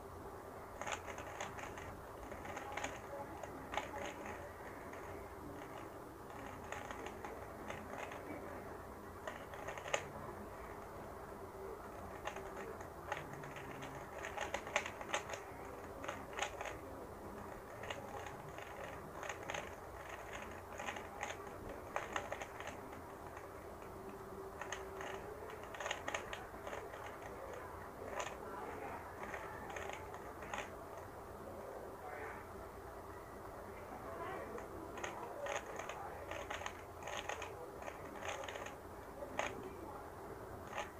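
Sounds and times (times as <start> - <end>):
puzzle cube clicking: 0.8 - 8.5, 9.2 - 10.9, 11.9 - 28.4, 29.1 - 31.1, 34.5 - 39.7, 40.6 - 40.9.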